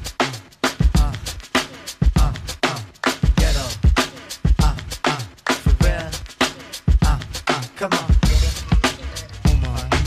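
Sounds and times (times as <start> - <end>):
hip hop music: 0.0 - 10.0.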